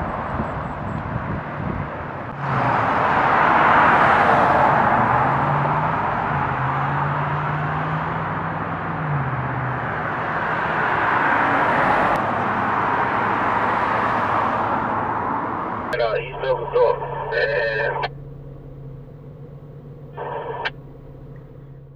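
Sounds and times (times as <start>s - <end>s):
cars passing: 0.0s - 21.9s
low engine hum: 0.0s - 21.9s.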